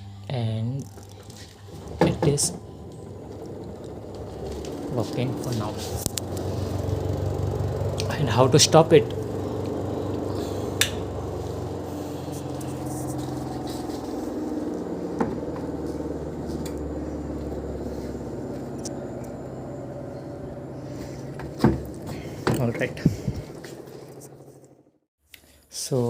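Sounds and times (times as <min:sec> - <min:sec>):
washing machine motor humming: 0:00.3 - 0:25.0.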